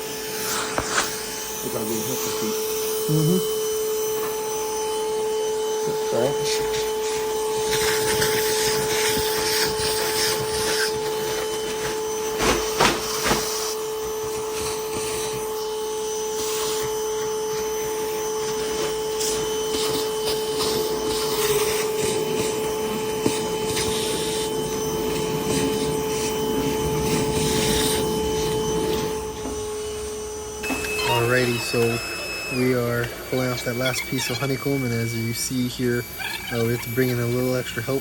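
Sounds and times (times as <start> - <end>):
vacuum motor humming: 0.0 - 38.0.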